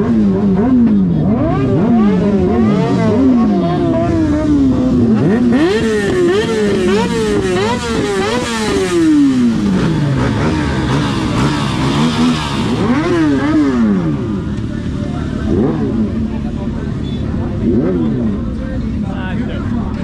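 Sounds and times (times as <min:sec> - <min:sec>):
motorcycle engine revving: 0:00.0 - 0:20.0
second engine running: 0:00.0 - 0:20.0.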